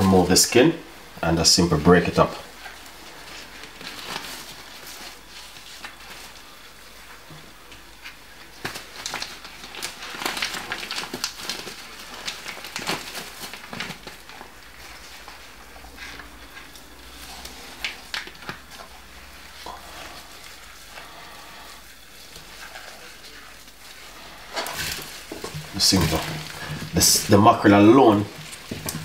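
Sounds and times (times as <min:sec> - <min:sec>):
plastic packet crinkling: 0:02.0 - 0:06.5, 0:07.8 - 0:29.0.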